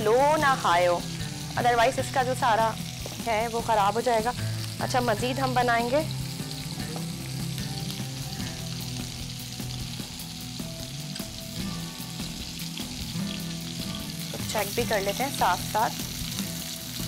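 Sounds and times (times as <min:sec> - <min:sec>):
kebabs sizzling in oil: 0:00.0 - 0:17.0.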